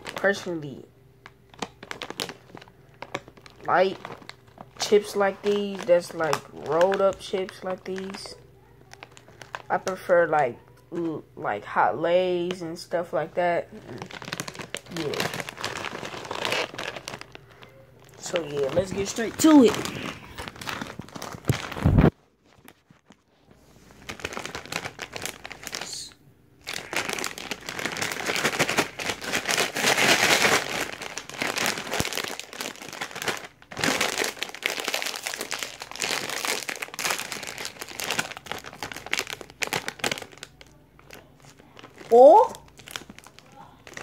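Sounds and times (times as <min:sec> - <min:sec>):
chip bag crinkling: 0:00.0 - 0:10.1, 0:13.7 - 0:44.0.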